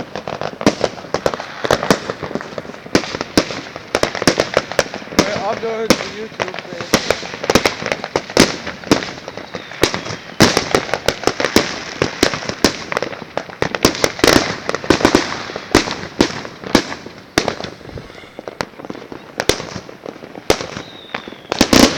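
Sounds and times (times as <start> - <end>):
fireworks bangs and pops: 0.0 - 21.9.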